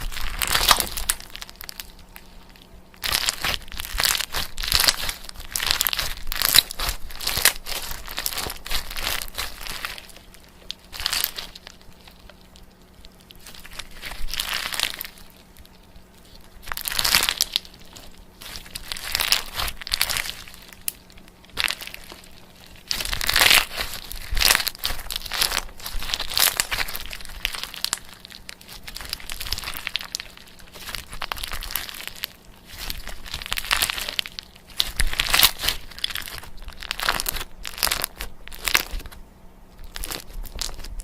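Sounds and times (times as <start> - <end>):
crinkling and crumpling: 0.0 - 41.0
faint low hum: 0.0 - 41.0.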